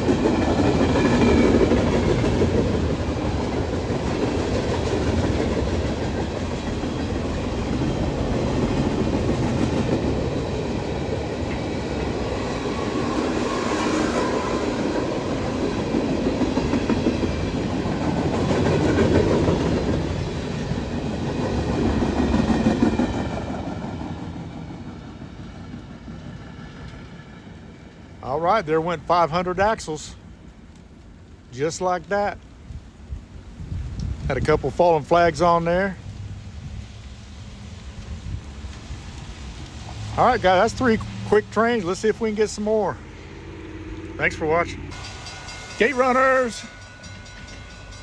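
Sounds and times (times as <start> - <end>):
freight train wheels on rails: 0.0 - 48.0.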